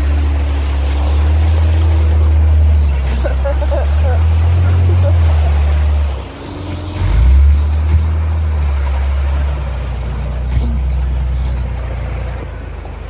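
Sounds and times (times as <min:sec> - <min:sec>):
off-road vehicle engine rumble: 0:00.0 - 0:13.0.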